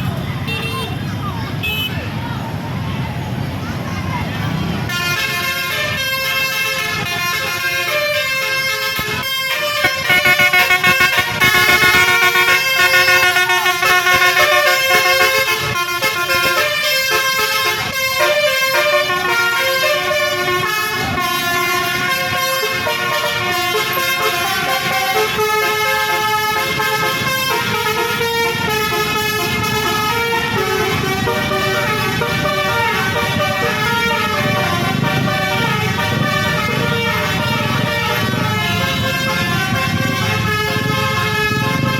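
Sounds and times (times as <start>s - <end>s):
bus air horn melody: 4.9s - 41.9s.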